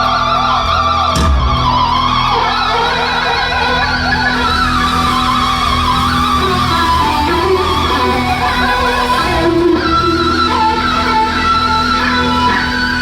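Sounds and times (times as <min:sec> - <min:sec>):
band playing: 0:00.0 - 0:13.0
electric guitar sustained notes: 0:00.0 - 0:13.0
low drone: 0:00.0 - 0:13.0.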